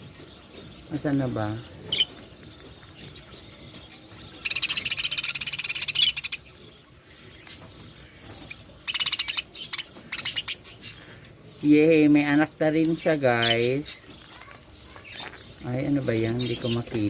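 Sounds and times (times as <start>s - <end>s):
budgerigars raspy stuttering calls: 0.2s - 12.3s, 13.0s - 17.0s.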